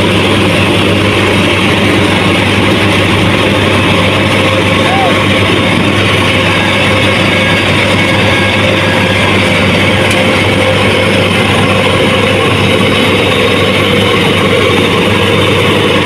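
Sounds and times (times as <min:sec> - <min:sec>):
combine harvester engine humming: 0:00.0 - 0:16.0.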